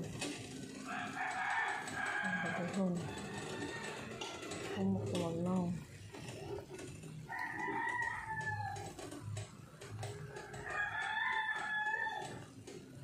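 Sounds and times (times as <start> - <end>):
faint scattered ticking: 0.0 - 13.0.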